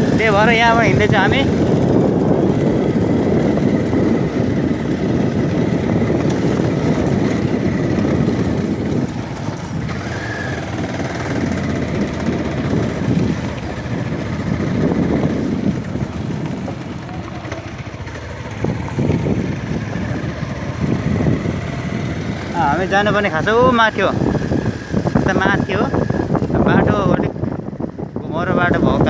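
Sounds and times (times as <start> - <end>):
motorcycle engine: 0.0 - 29.0
wind and road noise: 0.0 - 29.0.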